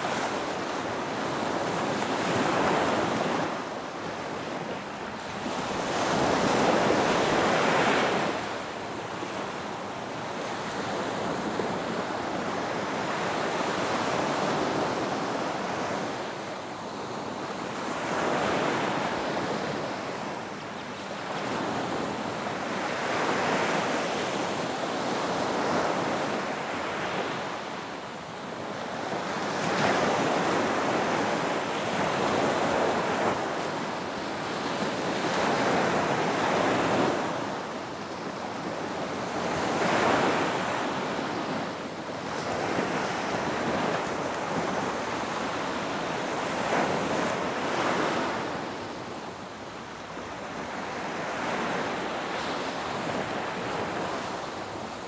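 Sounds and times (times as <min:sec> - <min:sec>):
ocean waves breaking on beach: 0:00.0 - 0:55.0
wind: 0:00.0 - 0:55.0.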